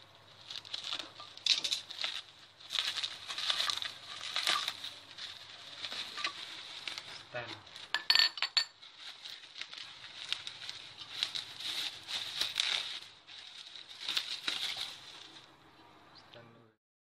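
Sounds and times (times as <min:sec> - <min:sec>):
bubble wrap crinkling: 0:00.0 - 0:16.1.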